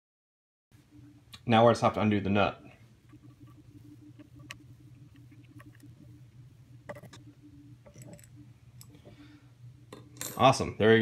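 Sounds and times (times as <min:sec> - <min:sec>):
low steady hum: 0:00.7 - 0:11.0.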